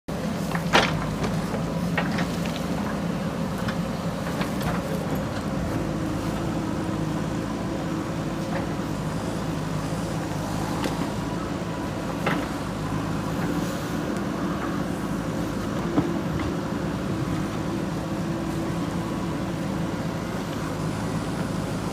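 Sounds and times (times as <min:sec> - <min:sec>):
diesel engine running: 0:00.1 - 0:21.9.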